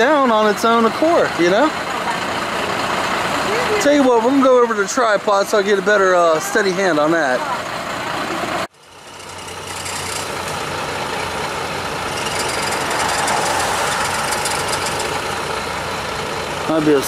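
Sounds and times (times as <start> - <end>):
engine idling with low hum: 0.0 - 17.0.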